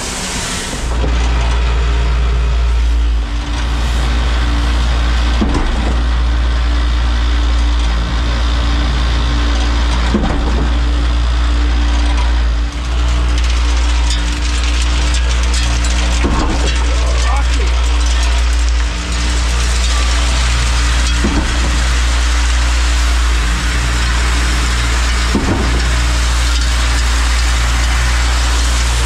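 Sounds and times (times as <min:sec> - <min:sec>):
concrete pump truck drone: 0:00.0 - 0:29.0.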